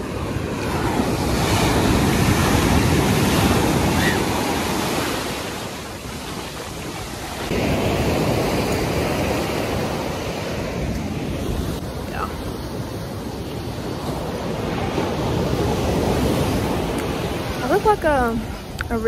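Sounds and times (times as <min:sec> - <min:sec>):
waves breaking on shore: 0:00.0 - 0:19.0.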